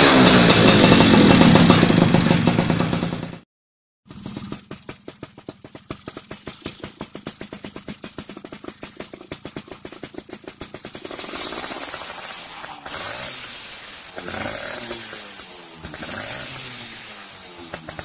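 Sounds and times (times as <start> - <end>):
two-stroke engine idling and revving: 0.0 - 18.0.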